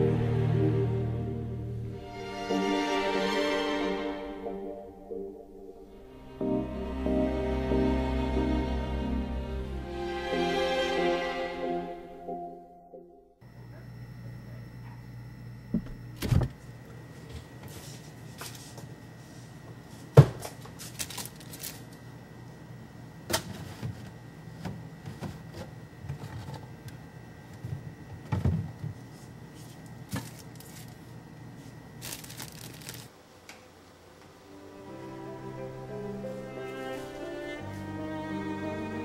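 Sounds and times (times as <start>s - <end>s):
steady low hum: 0.0s - 12.3s, 13.3s - 39.0s.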